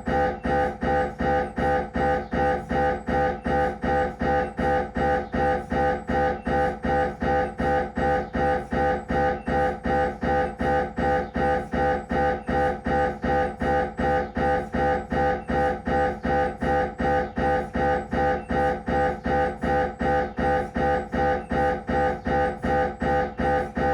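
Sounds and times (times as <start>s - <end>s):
mri scanner loud pitched pulses: 0.0s - 23.9s.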